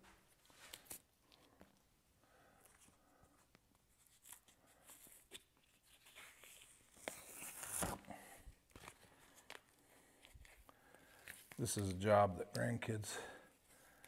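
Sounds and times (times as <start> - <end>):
rubber stencil peeling rustles: 0.3 - 1.8, 2.6 - 12.6.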